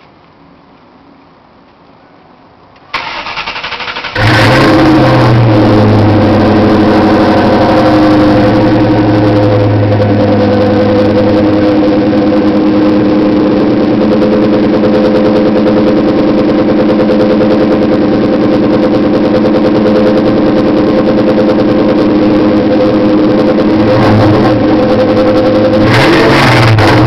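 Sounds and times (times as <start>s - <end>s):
car engine running: 2.9s - 27.0s.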